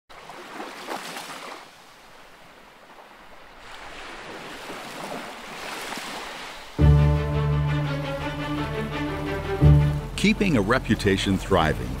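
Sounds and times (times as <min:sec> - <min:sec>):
ocean waves washing in: 0:00.1 - 0:12.0.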